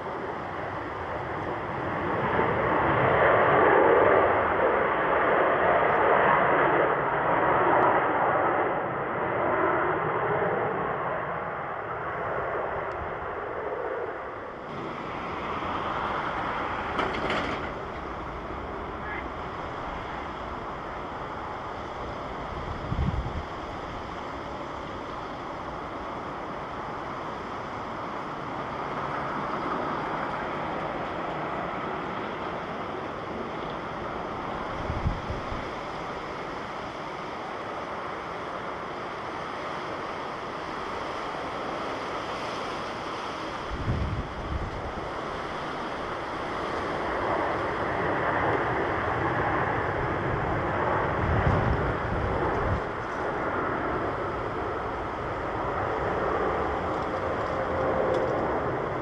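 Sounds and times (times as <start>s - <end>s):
wind buffeting microphone: 0.0s - 8.5s, 9.2s - 37.1s, 42.8s - 59.0s
airliner jet noise: 0.0s - 59.0s.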